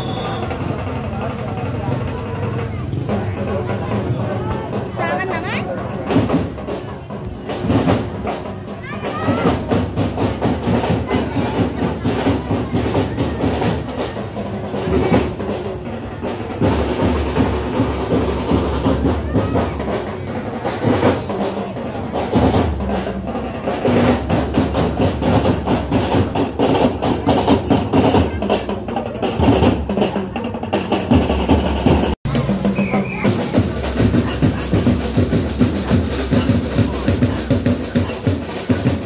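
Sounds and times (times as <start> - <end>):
marching drum band: 0.0 - 39.0.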